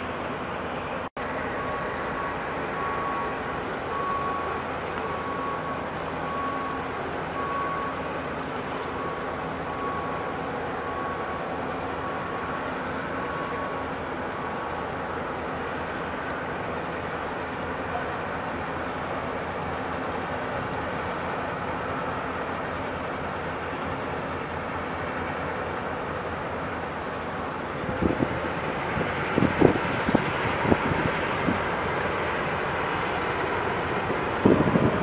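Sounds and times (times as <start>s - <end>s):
tugboat engines and water: 0.0s - 35.0s.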